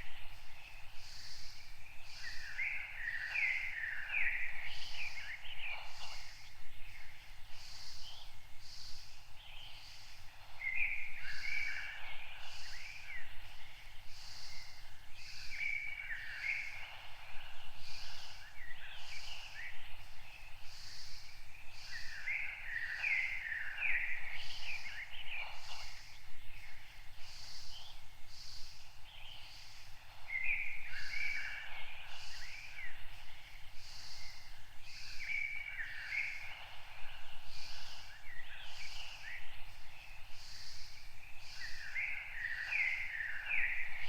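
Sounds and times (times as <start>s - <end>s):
songbirds warbling: 0.0s - 44.0s.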